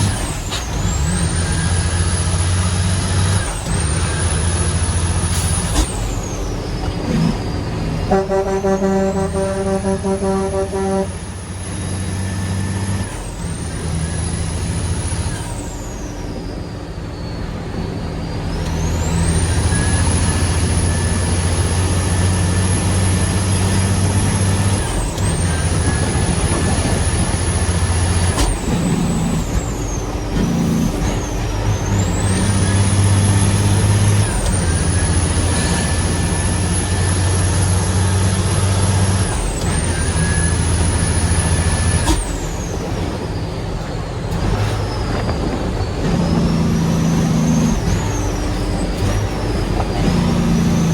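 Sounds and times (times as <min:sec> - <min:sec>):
diesel truck engine under load: 0:00.0 - 0:50.9
high engine whine: 0:00.0 - 0:50.9.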